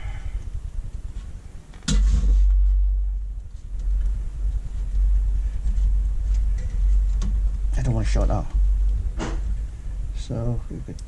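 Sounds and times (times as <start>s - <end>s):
metal monitor handling rumble: 1.6s - 11.0s.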